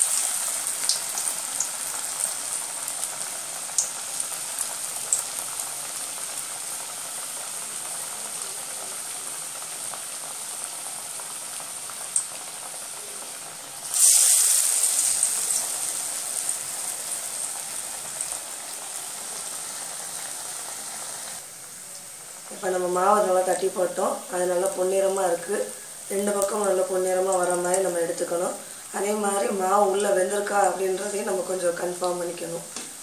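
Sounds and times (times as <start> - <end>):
food deep-frying in hot oil: 0.0 - 33.0.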